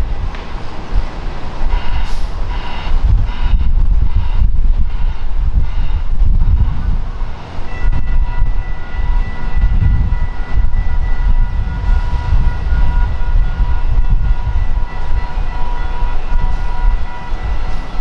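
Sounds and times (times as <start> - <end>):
high whine: 0.0 - 18.0
train rumbling: 0.0 - 18.0.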